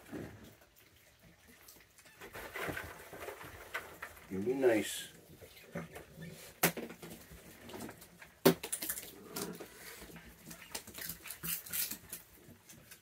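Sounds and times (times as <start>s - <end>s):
animals crunching food: 0.0s - 13.0s.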